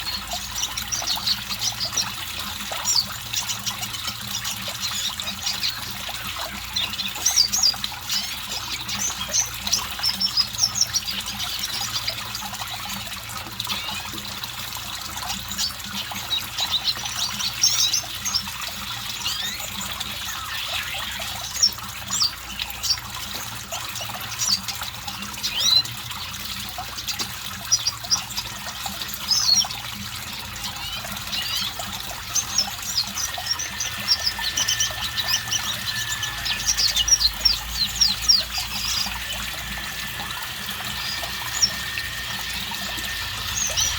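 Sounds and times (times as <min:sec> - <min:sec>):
bird twittering song: 0:00.0 - 0:43.9.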